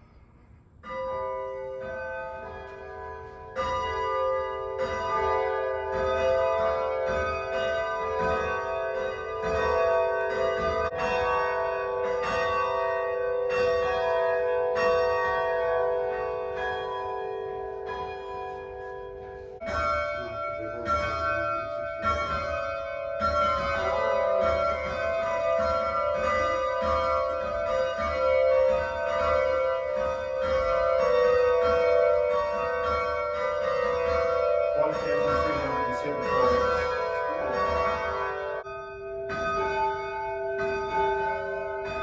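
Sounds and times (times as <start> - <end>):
tower bells ringing: 0.8 - 42.0.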